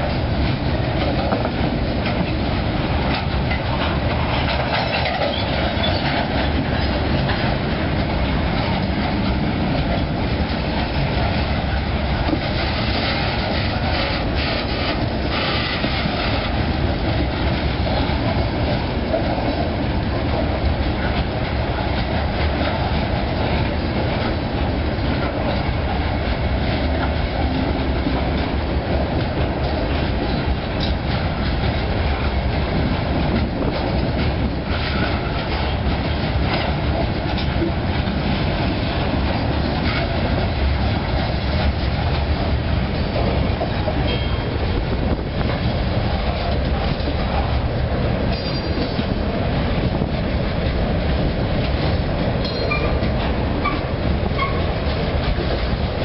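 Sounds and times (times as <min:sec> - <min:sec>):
train wheels rumbling: 0:00.0 - 0:56.0
wheels clacking over rail joints: 0:00.0 - 0:56.0.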